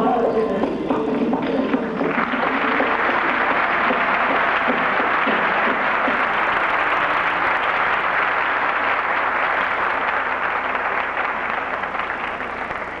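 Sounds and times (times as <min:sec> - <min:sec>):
audience applauding: 0:01.3 - 0:13.0.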